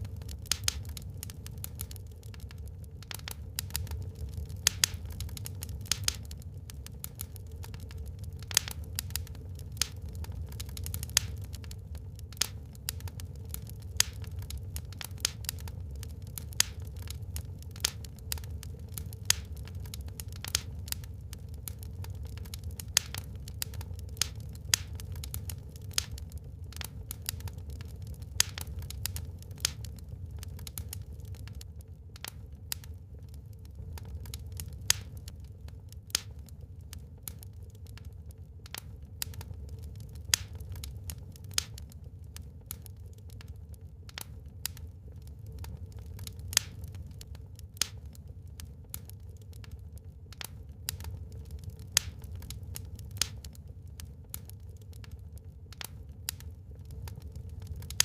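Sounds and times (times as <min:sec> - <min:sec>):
low steady rumble: 0:00.0 - 0:58.0
wood fire crackling: 0:00.0 - 0:58.0
sharp pops and snaps: 0:00.1 - 0:32.9, 0:33.7 - 0:35.4, 0:36.0 - 0:42.0, 0:42.7 - 0:44.9, 0:45.5 - 0:58.0.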